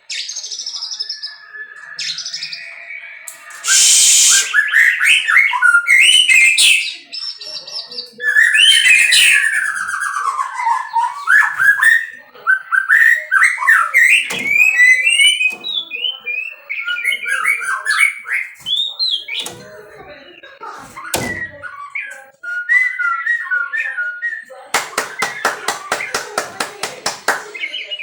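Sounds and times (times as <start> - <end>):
songbird whistling song: 0.0 - 28.0.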